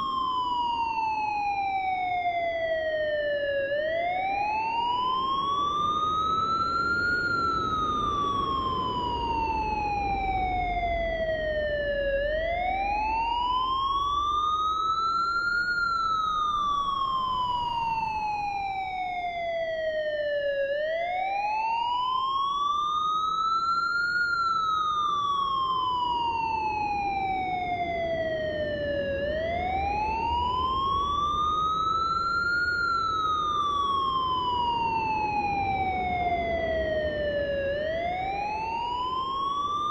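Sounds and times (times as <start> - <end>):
emergency siren wailing: 0.0 - 39.9.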